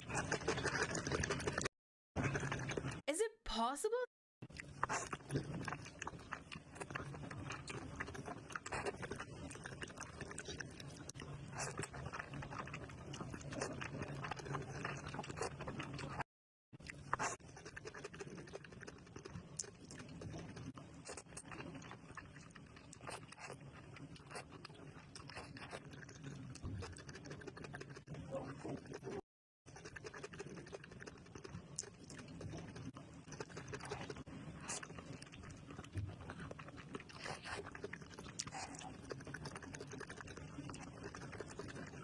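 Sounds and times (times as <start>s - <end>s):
wet chewing and mouth smacks: 4.4s - 16.2s, 16.8s - 42.0s.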